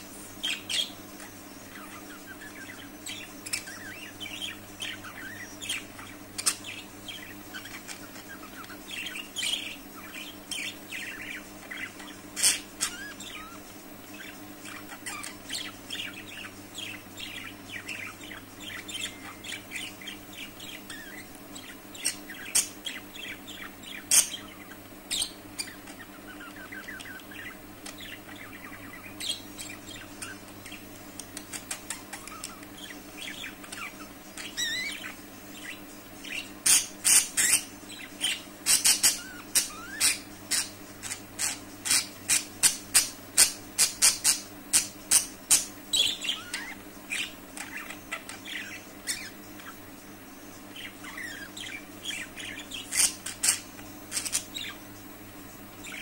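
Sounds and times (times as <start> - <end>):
faint steady hum: 0.0 - 56.0
budgerigars chattering and warbling: 0.3 - 55.1, 55.7 - 56.0.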